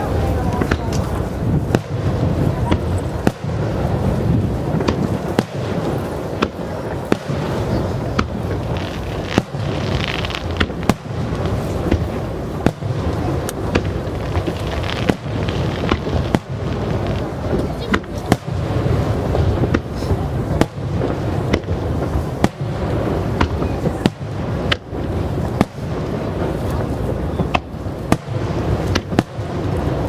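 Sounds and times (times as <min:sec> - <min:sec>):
deep rumble of firework explosions: 0:00.0 - 0:30.0
sharp firework reports: 0:00.0 - 0:30.0.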